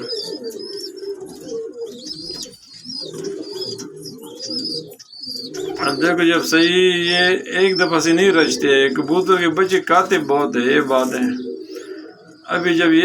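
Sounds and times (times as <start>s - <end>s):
pigeon cooing: 0.0s - 13.0s
pigeon squabs squeaking: 0.0s - 13.0s.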